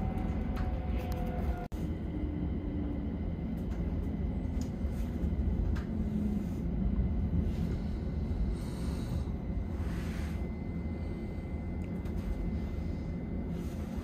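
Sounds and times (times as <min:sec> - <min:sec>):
faint motor hum: 0:00.0 - 0:14.0.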